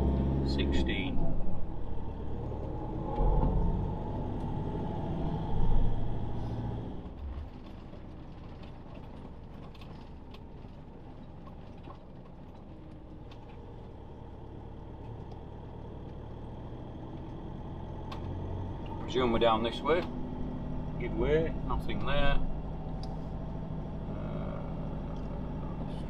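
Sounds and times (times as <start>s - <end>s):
motorhome engine: 0.0s - 26.0s
road noise: 0.0s - 26.0s.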